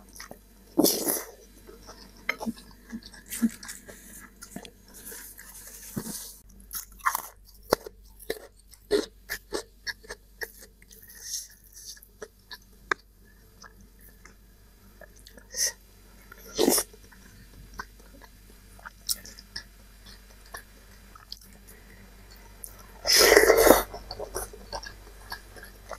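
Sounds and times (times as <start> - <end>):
chewing and crunching noodles: 0.0 - 14.4, 15.0 - 25.9.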